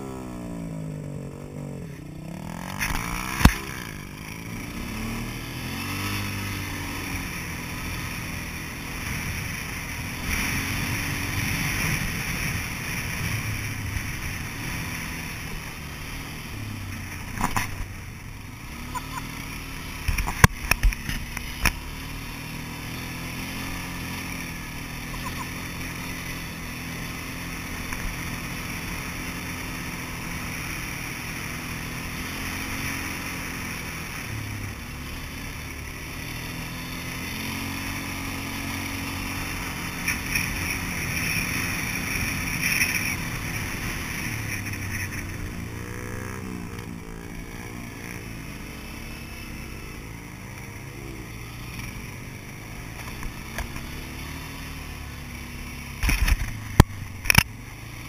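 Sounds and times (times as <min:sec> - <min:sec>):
quad bike engine revving: 0:00.0 - 0:58.0.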